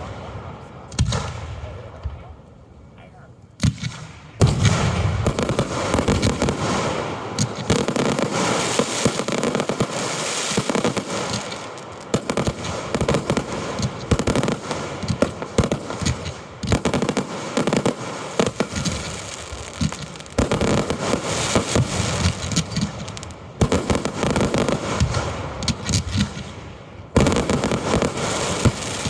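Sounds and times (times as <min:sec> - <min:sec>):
fireworks launching and bursting: 0:00.0 - 0:02.3, 0:03.6 - 0:29.0
fireworks crackling: 0:00.0 - 0:02.6, 0:03.4 - 0:29.0.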